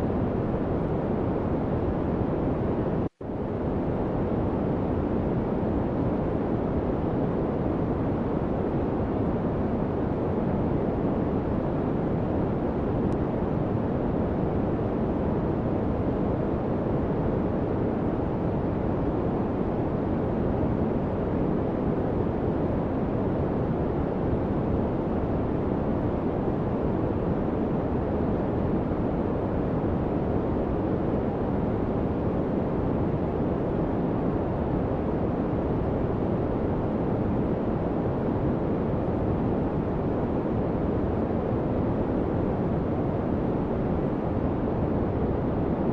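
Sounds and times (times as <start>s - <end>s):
white noise hiss: 0.0s - 45.9s.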